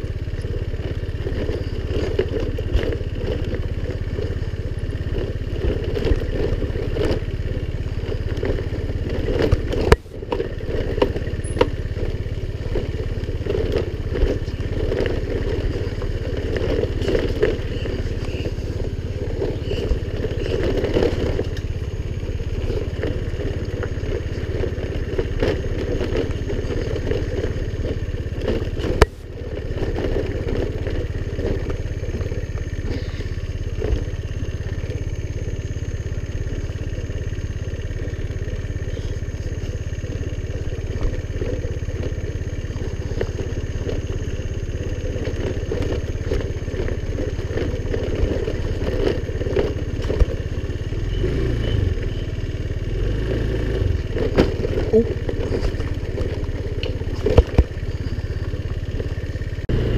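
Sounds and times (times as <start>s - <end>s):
scooter engine running: 0.0s - 59.9s.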